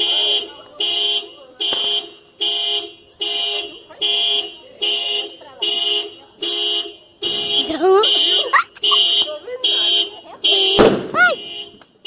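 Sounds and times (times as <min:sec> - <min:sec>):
car alarm horn beeps: 0:00.0 - 0:12.0.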